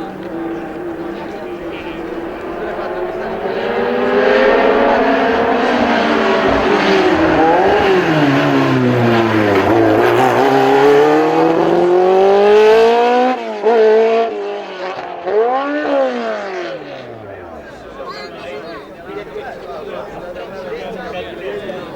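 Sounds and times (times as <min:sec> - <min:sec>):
racing car engine revving: 0:00.0 - 0:21.9.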